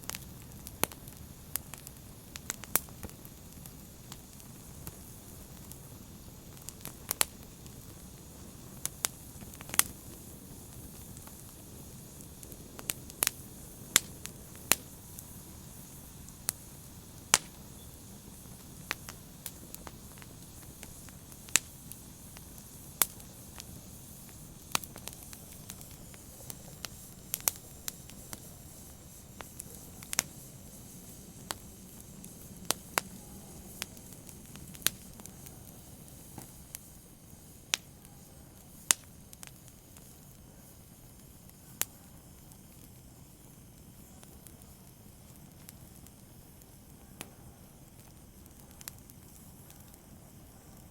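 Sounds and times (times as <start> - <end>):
low steady hiss: 0.0 - 50.9
wood fire crackling and popping: 0.0 - 50.9.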